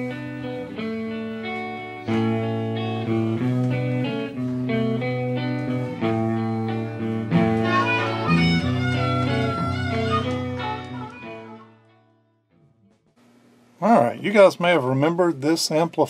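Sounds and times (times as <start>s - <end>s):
guitar melody: 0.0s - 13.1s.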